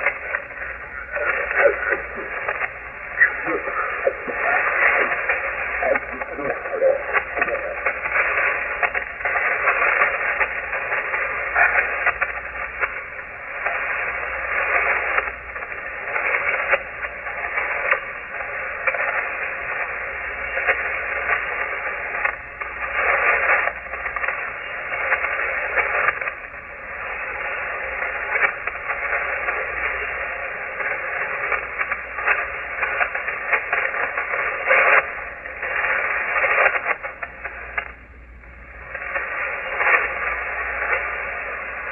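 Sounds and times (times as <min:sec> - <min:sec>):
radio static and hiss: 0:00.0 - 0:41.9.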